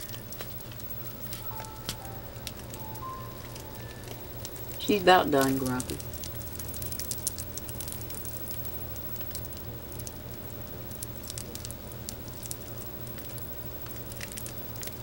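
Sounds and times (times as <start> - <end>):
snake skin crackling: 0.0 - 15.0
steady low hum: 0.0 - 15.0.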